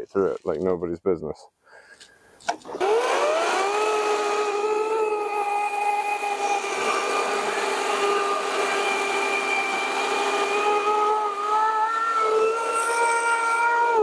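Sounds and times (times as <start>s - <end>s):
electric chainsaw motor whine: 2.6s - 14.0s.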